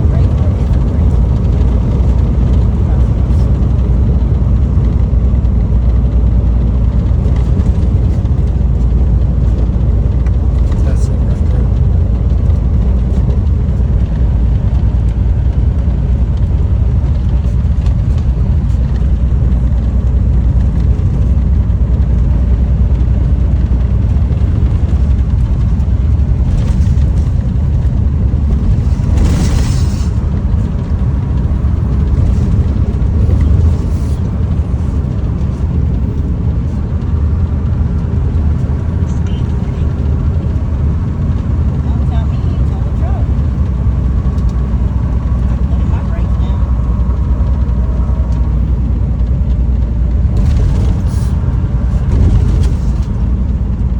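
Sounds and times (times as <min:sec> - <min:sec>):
car rumble with road noise: 0:00.0 - 0:53.9
wind noise: 0:00.0 - 0:53.9.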